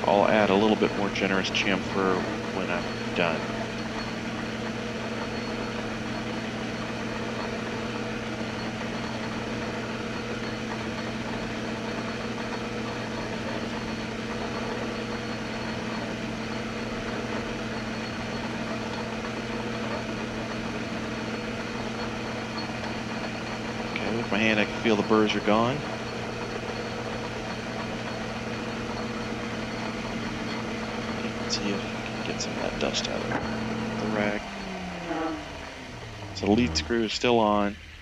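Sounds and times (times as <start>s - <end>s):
file on spinning metal: 0.0s - 38.0s
metal lathe humming: 0.0s - 38.0s.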